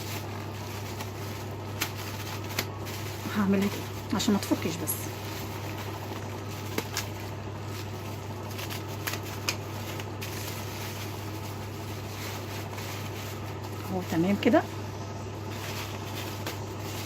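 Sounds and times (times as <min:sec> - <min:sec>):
hands rustling plastic bag: 0:00.0 - 0:17.0
steady low hum: 0:00.0 - 0:17.0.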